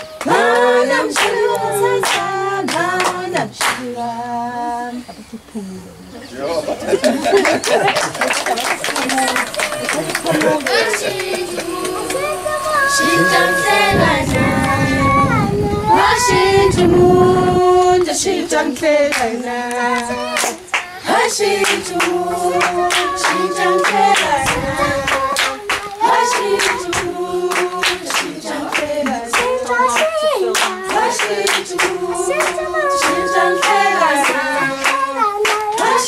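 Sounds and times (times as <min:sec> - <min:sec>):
rhythmic hand claps: 0:00.0 - 0:04.0, 0:07.1 - 0:15.1, 0:18.0 - 0:36.0
junior choir singing: 0:00.0 - 0:05.1, 0:06.3 - 0:36.0.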